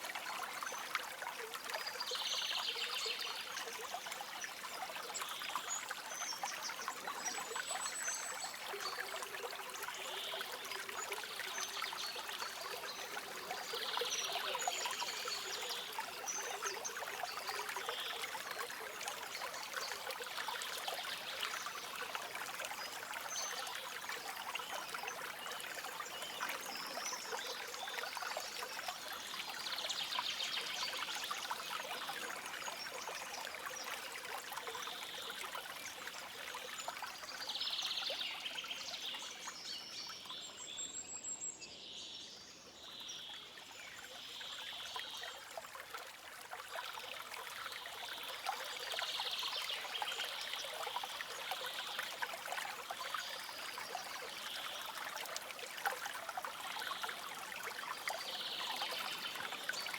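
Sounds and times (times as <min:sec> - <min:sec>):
stream babbling over stones: 0:00.0 - 0:40.2, 0:42.9 - 0:59.9.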